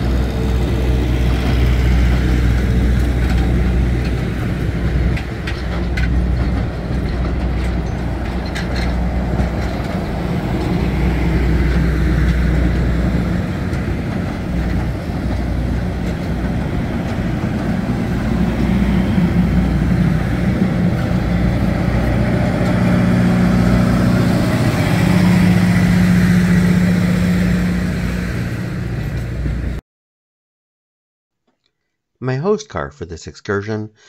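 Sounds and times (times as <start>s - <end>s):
train wheels rumbling on rails: 0.0s - 29.8s.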